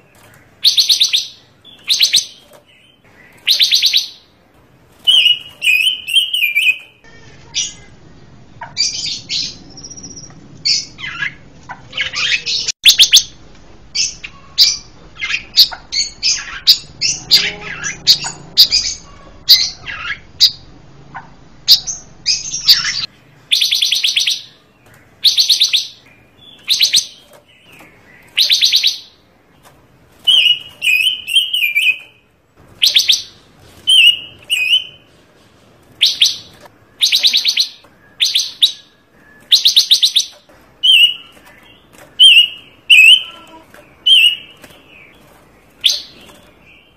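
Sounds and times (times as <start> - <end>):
songbird singing: 0.0 - 35.1, 36.0 - 46.9.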